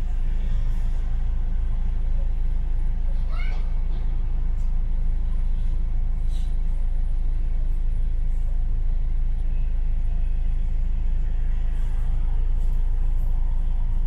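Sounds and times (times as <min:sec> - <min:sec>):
bus engine and tyres rumbling: 0:00.0 - 0:14.0.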